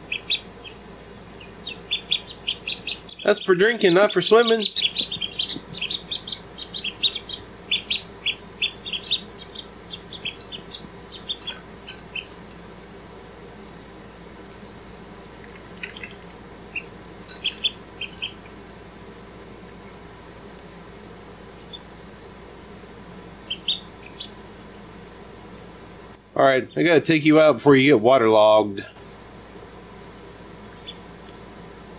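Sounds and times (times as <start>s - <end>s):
ducklings peeping: 0.0s - 27.6s, 28.9s - 31.9s.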